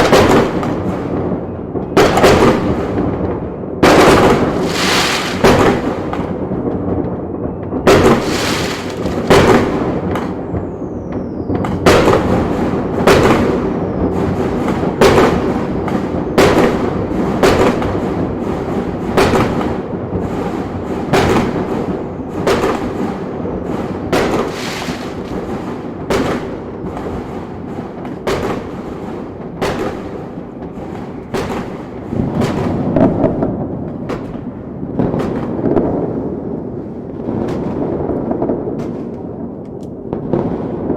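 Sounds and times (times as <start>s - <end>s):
fireworks bangs: 0.0s - 40.9s
fireworks rumble and crackle: 0.0s - 40.9s.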